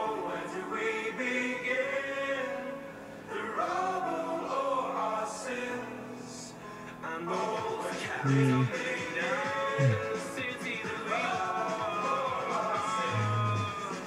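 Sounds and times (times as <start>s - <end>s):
music: 0.0s - 14.0s
voices singing children's songs: 0.0s - 14.0s.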